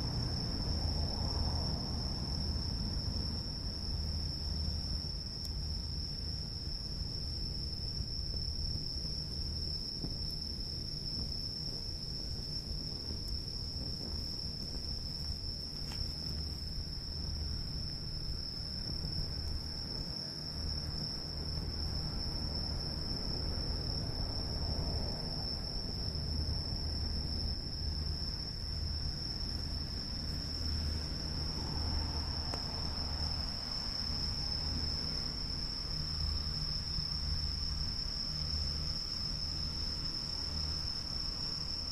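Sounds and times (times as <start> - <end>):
crickets trilling: 0.0 - 41.9.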